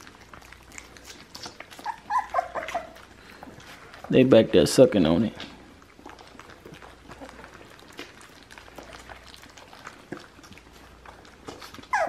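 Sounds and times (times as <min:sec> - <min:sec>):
puppies chewing wet smacks: 0:00.0 - 0:12.0.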